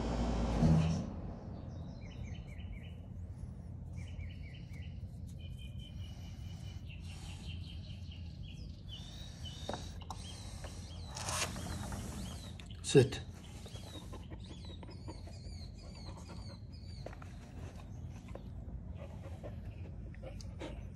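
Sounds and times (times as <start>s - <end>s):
low steady hum: 0.0s - 20.9s
small birds chirping: 1.6s - 20.9s.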